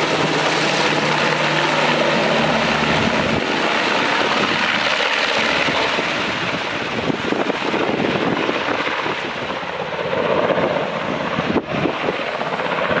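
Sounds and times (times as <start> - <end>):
helicopter flying past: 0.0 - 13.0.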